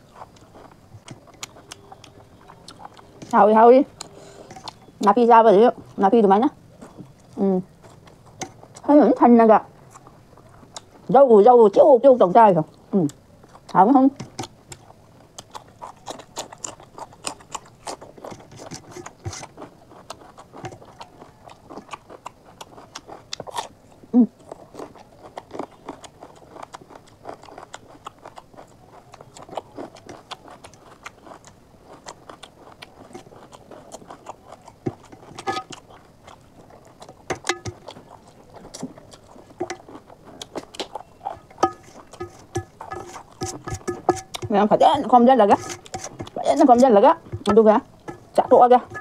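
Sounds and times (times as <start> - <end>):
person chewing and biting: 0.0 - 5.1, 6.8 - 8.8, 13.0 - 45.1, 45.7 - 46.4.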